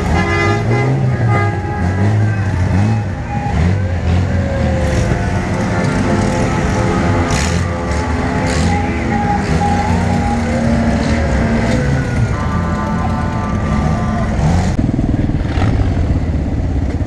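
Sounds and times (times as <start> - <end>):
motorcycle and buggy engines: 0.0 - 17.0.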